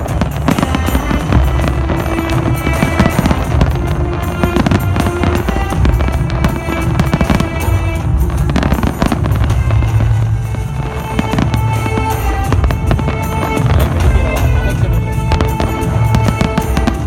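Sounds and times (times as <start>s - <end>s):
fireworks bangs and crackles: 0.0s - 17.0s
loud music: 0.0s - 17.0s.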